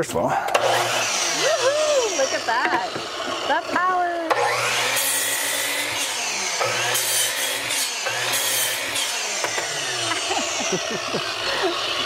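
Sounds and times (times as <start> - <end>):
miter saw cutting wood: 0.3 - 12.0.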